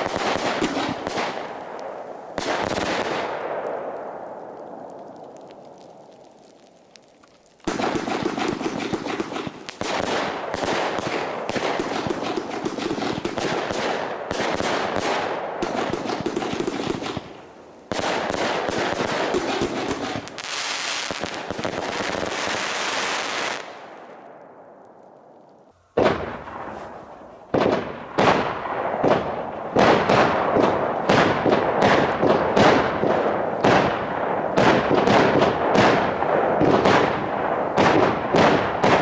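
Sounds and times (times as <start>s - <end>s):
firework battery shots and crackling: 0.0s - 25.3s, 26.0s - 39.0s.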